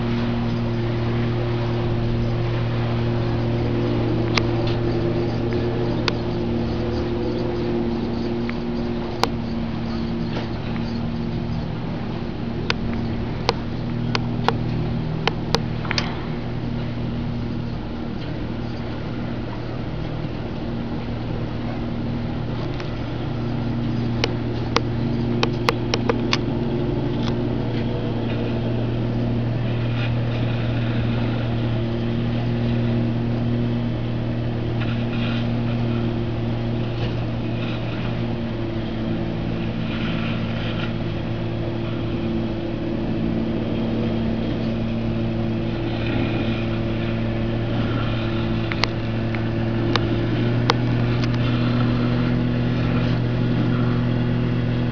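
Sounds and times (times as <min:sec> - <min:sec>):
boat engine running: 0:00.0 - 0:54.9.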